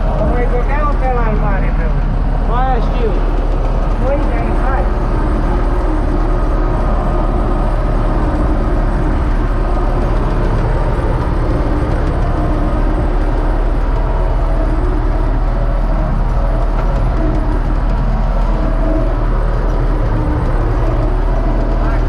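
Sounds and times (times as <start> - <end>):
tractor diesel engine droning: 0.0 - 22.0.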